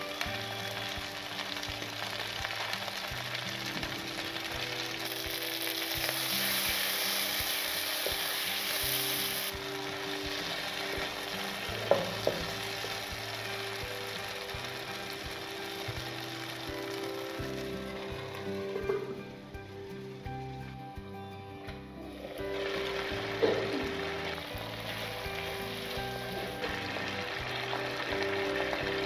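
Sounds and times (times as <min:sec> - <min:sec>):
vegetables sizzling in a wok: 0:00.0 - 0:20.4, 0:22.0 - 0:29.0.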